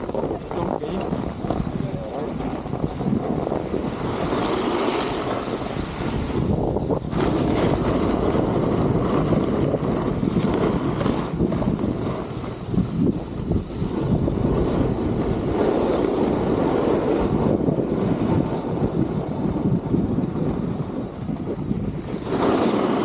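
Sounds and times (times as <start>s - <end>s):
snowboard scraping over snow: 0.0s - 23.0s
wind buffeting microphone: 0.0s - 23.0s.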